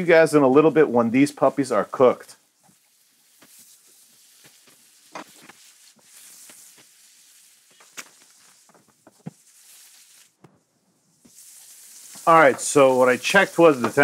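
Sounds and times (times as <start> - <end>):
sausage frying with soft hiss: 0.0 - 14.0.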